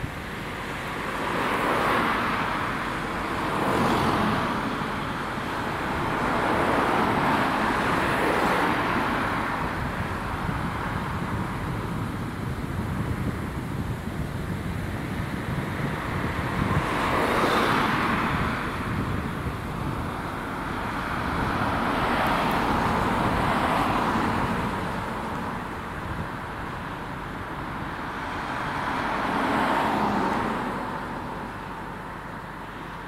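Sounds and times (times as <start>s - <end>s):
cars passing by: 0.0s - 33.0s.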